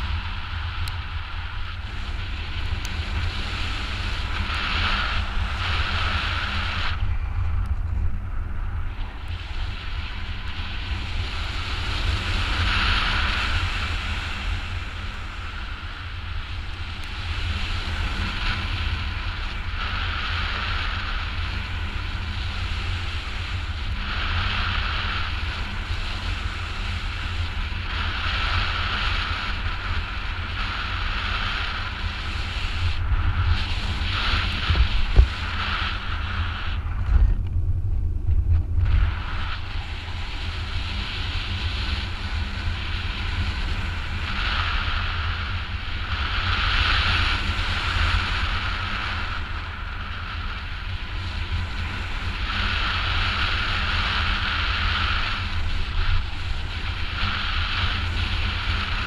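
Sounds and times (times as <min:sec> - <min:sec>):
hissing rush of airflow: 0:00.0 - 0:59.0
wind buffeting microphone: 0:00.0 - 0:59.0.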